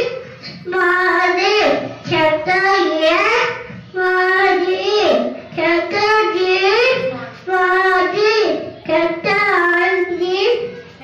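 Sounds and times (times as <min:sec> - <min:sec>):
child singing into microphone: 0:00.0 - 0:11.0.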